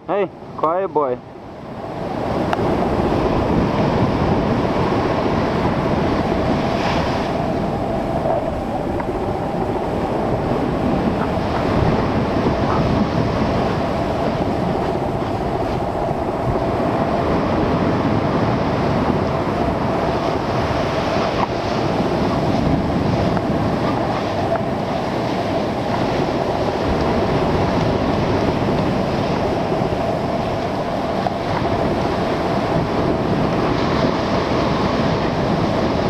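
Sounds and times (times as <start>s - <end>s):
wind on microphone: 0.0s - 36.0s
waves breaking against rocks: 0.1s - 36.0s.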